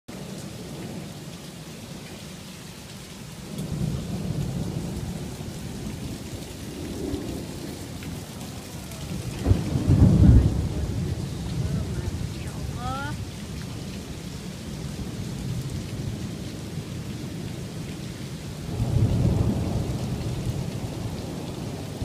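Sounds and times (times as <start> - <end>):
hail and heavy rain: 0.1 - 22.0.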